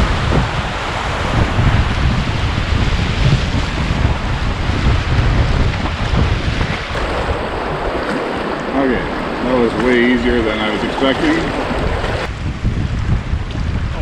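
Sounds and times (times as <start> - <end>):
river water rushing: 0.0 - 12.3
wind buffeting microphone: 0.0 - 14.0.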